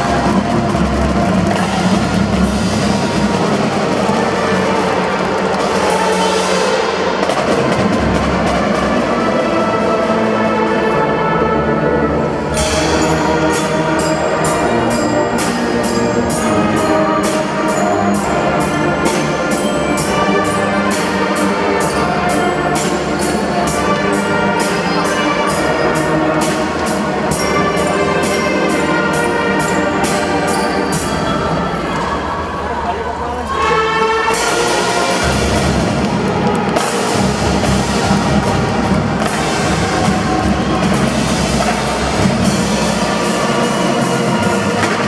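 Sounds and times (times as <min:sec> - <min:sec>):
drum and cymbal hits: 0:00.0 - 0:11.2, 0:12.3 - 0:32.1, 0:34.2 - 0:45.0
brass melody: 0:00.0 - 0:32.4, 0:33.4 - 0:45.0.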